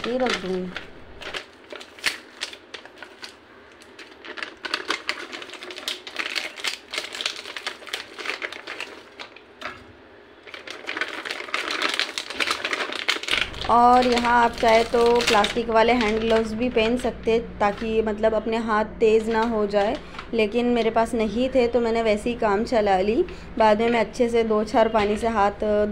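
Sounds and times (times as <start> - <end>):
plastic bag crinkling: 0.0 - 22.7.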